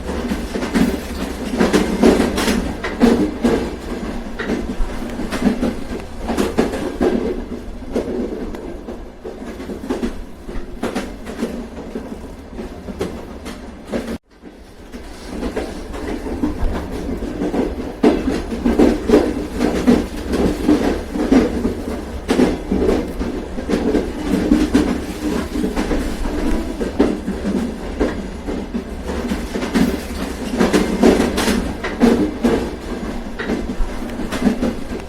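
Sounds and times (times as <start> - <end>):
train wheels clacking on rails: 0.0 - 35.0.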